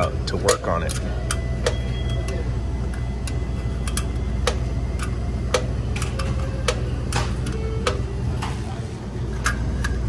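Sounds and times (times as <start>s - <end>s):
metallic clicks of handled wires: 0.0s - 8.6s, 9.3s - 10.0s
compressor unit humming: 0.0s - 10.0s.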